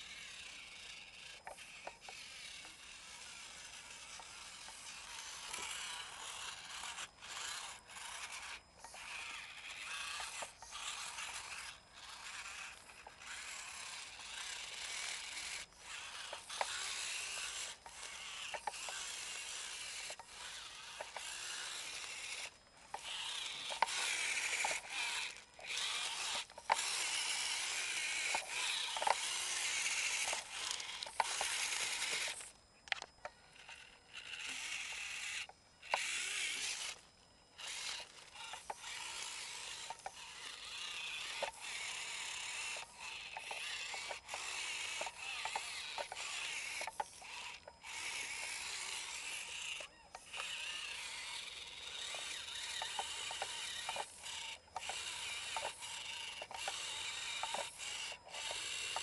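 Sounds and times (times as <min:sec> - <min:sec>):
small electric motor whirring: 0:00.0 - 0:59.0.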